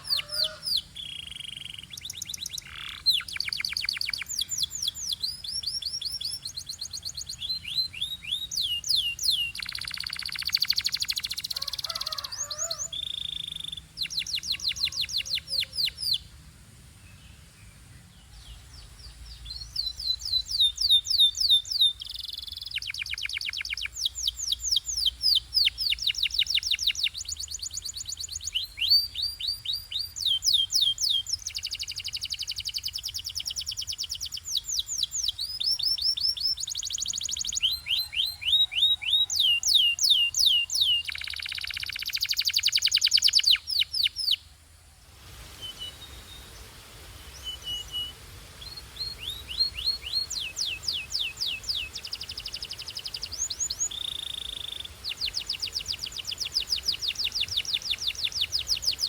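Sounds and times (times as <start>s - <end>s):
canary singing trills: 0.0s - 16.3s, 18.5s - 44.5s, 45.6s - 59.0s.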